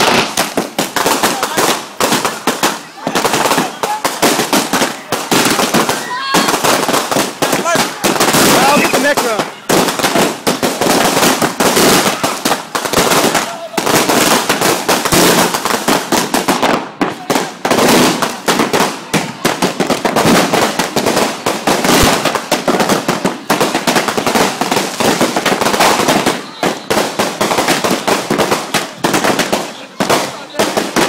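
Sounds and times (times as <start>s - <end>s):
fireworks crackling and banging: 0.0s - 31.0s.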